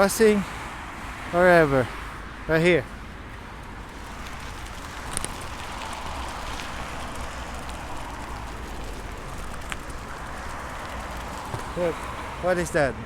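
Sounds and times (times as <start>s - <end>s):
bicycle rolling on bumpy road: 0.7s - 13.0s
bicycle rattling: 2.5s - 13.0s.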